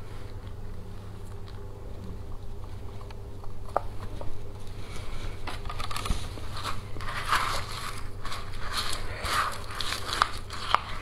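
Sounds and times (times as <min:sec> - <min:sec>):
spoon scraping crunchy granola: 0:00.2 - 0:11.0.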